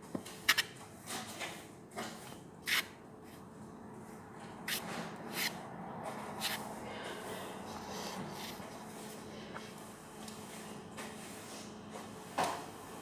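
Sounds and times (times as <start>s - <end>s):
rustling of flour coating: 0.2s - 13.0s.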